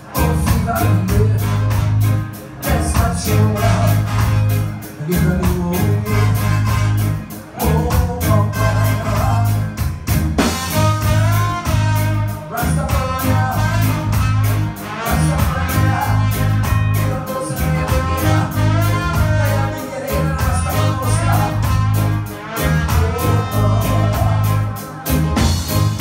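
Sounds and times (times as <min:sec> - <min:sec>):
man singing: 0:00.0 - 0:09.8, 0:10.4 - 0:26.0
bass line: 0:00.0 - 0:26.0
drums: 0:00.0 - 0:26.0.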